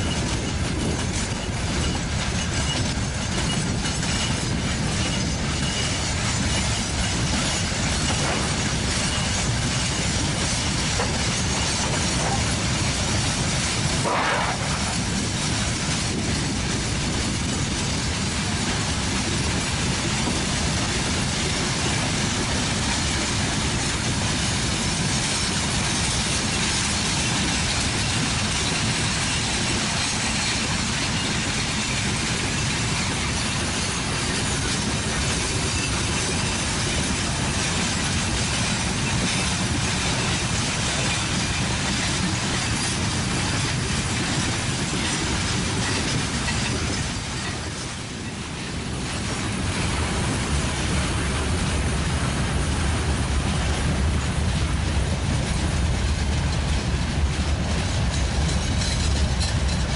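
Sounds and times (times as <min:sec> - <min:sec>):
train wheels rumbling and rattling: 0:00.0 - 0:59.9.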